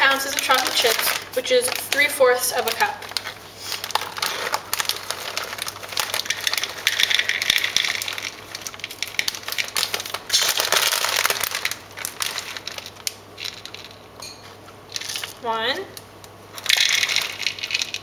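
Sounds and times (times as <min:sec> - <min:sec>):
chocolate chips clattering into cup: 0:00.0 - 0:14.1, 0:16.6 - 0:18.0
plastic bag crinkling: 0:00.0 - 0:14.2, 0:14.9 - 0:15.4, 0:16.5 - 0:18.0.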